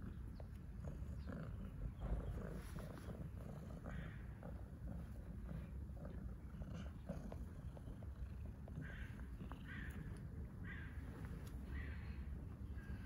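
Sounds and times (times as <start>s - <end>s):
cat purring: 0.0s - 11.7s.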